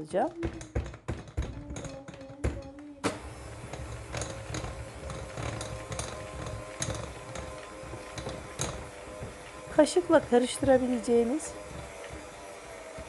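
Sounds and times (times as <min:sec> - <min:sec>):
hand mixer motor whine: 0:02.5 - 0:13.0.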